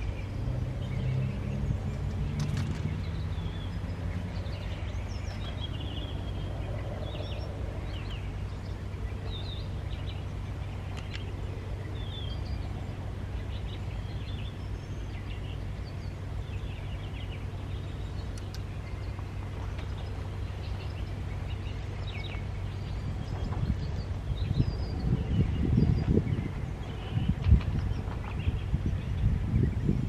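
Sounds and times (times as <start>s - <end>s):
small birds chirping: 0.0s - 30.0s
steady low hum: 0.0s - 30.0s.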